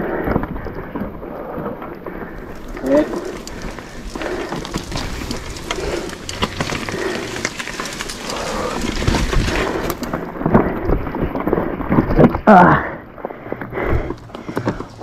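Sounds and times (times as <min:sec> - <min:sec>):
bike rattling: 0:00.0 - 0:15.0
bike tyres on dirt trail: 0:00.0 - 0:15.0.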